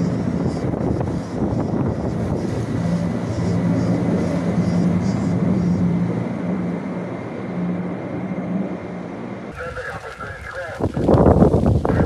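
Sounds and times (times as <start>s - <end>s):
aircraft engine drone: 0.0s - 12.0s
rushing noise: 0.0s - 12.0s.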